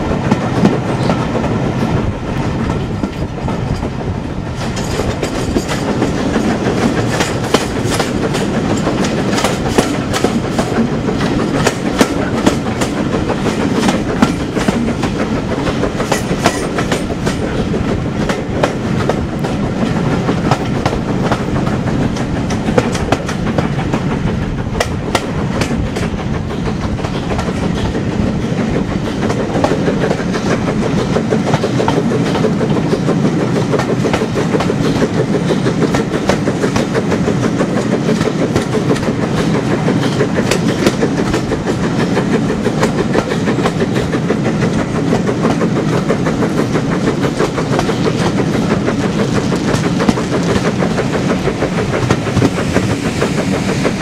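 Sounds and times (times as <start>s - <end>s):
carriage wheels rumbling on track: 0.0s - 54.0s
wheels clattering over rail joints: 0.0s - 54.0s.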